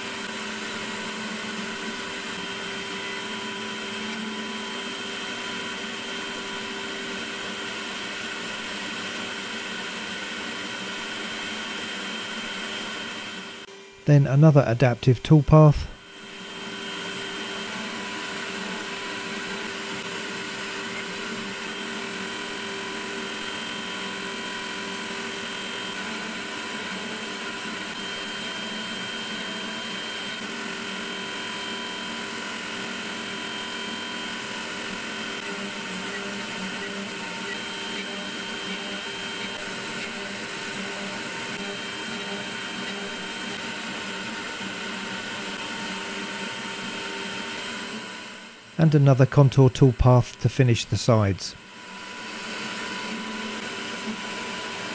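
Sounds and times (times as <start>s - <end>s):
cnc spindle whining: 0.0s - 14.0s, 15.9s - 48.7s, 51.6s - 54.9s.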